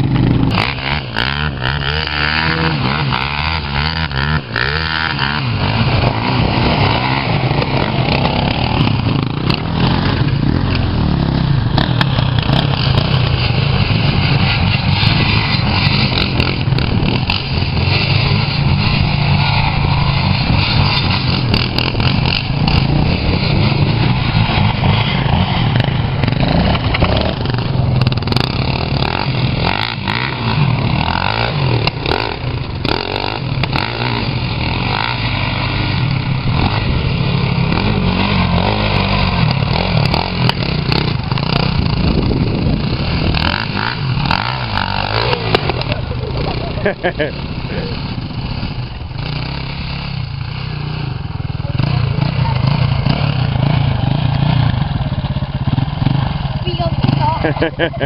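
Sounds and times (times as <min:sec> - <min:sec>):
quad bike engines revving: 0:00.0 - 0:58.0.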